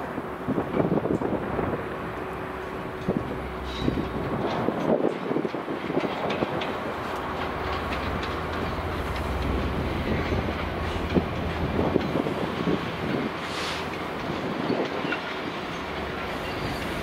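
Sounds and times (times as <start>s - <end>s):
freight train rumbling: 0.0s - 17.0s
train wheels clattering over rail joints: 0.5s - 17.0s.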